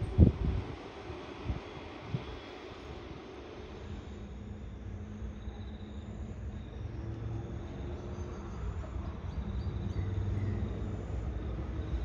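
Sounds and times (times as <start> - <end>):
diesel train engine running: 0.0 - 12.0.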